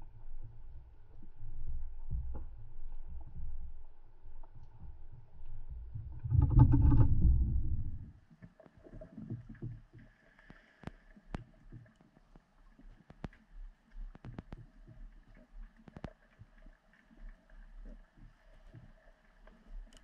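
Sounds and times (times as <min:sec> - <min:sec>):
muffled underwater churning: 0:00.0 - 0:20.0.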